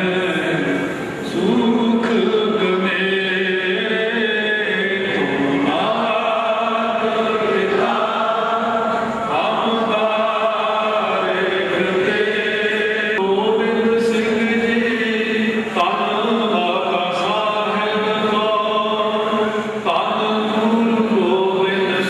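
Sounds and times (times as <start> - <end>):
group devotional chanting: 0.0 - 22.0.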